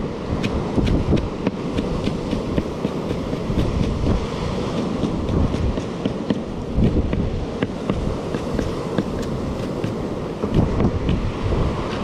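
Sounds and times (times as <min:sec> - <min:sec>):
wind rumbling on microphone: 0:00.0 - 0:12.0
knife chopping herbs on wood: 0:00.4 - 0:10.0.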